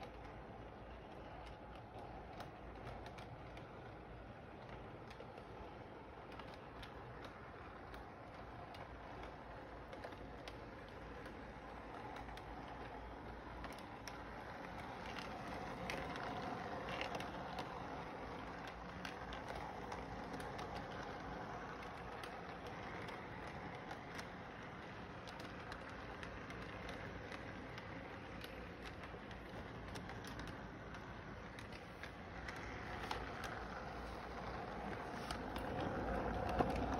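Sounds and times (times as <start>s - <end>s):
model train rattling: 0.0s - 36.9s
wheels clicking over rail joints: 0.0s - 36.9s.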